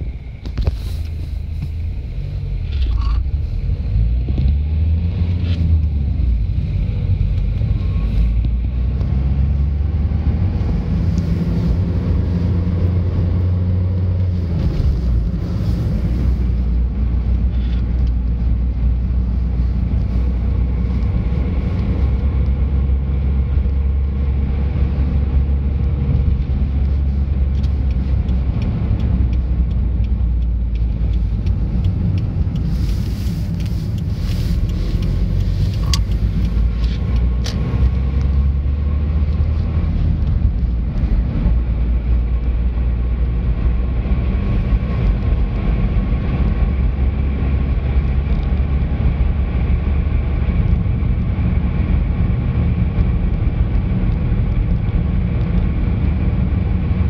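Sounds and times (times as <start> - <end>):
car engine: 0.0 - 57.0
road noise inside car: 0.0 - 57.0.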